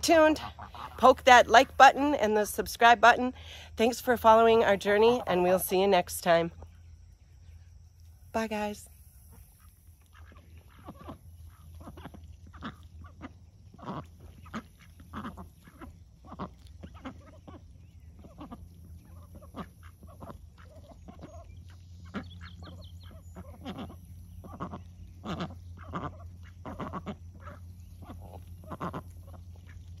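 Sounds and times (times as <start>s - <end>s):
ducks quacking and geese honking: 0.0s - 6.6s, 9.4s - 30.0s
steady low hum: 0.0s - 30.0s.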